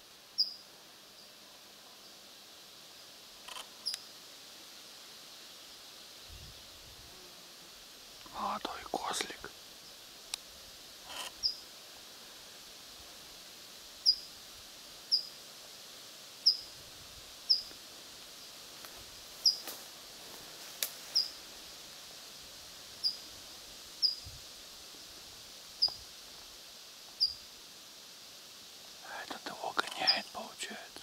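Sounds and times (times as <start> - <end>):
faint outdoor hiss: 0.0 - 31.0.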